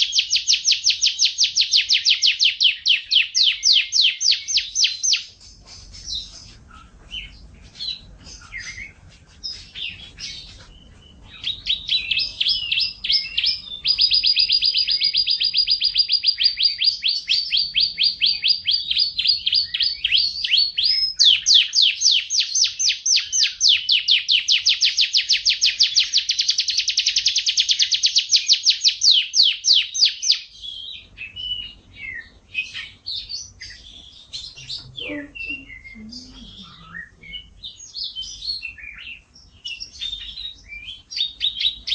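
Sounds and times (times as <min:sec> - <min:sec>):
canary singing chirps and trills: 0:00.0 - 0:41.9.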